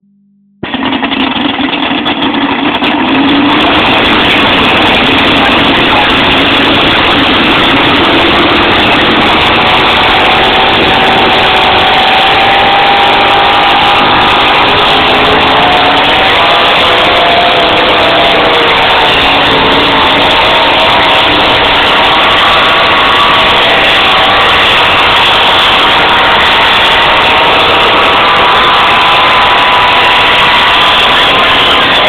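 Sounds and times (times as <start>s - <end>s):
truck engine at full throttle: 0.0s - 32.0s.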